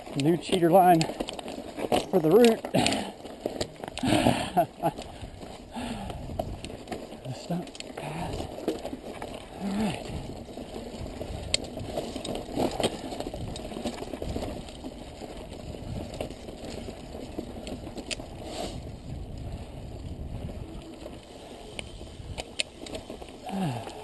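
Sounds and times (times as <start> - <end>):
stones clicking and knocking: 0.0 - 18.3, 20.9 - 24.0
bike tyres rolling on gravel: 0.0 - 24.0.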